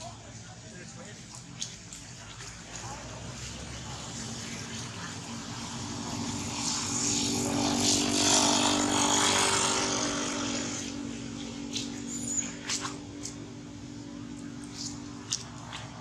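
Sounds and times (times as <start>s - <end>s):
vehicle passing by: 2.5s - 16.0s.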